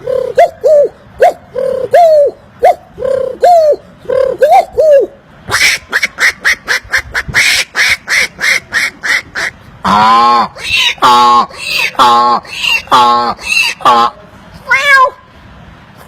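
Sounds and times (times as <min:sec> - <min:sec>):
man imitating animal calls: 0:00.0 - 0:15.2.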